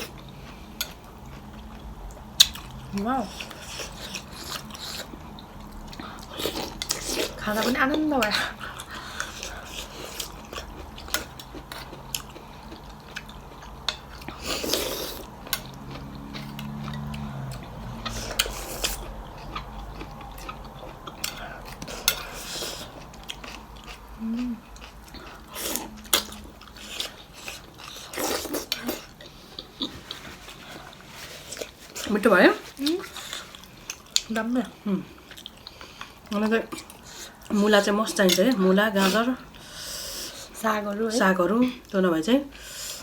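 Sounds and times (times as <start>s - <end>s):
chewing: 0.0s - 40.5s.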